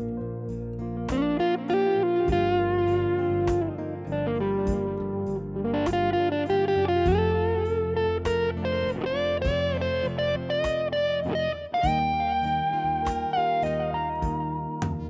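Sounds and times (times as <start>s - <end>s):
guitar melody with bending notes: 0.0s - 15.0s
steady beat: 0.0s - 15.0s.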